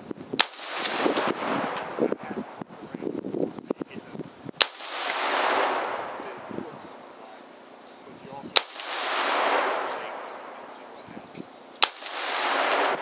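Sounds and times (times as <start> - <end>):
rifle shots with rolling echo: 0.4 - 2.6, 4.5 - 13.0.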